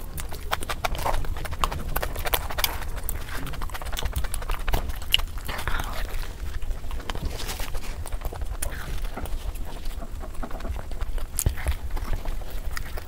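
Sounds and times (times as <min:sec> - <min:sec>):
lip and tongue clicks: 0:00.0 - 0:13.0
wet smacking and chewing: 0:00.0 - 0:13.0.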